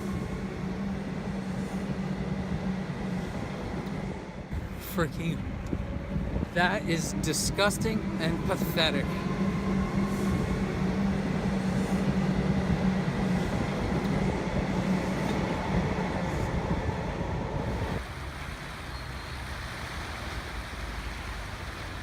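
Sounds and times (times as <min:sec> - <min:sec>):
low motor hum: 0:00.0 - 0:18.0
rushing noise: 0:00.0 - 0:22.0.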